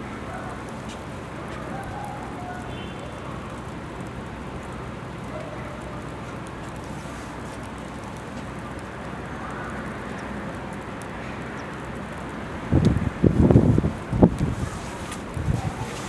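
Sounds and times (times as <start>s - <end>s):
faint clicks: 0.1s - 16.0s.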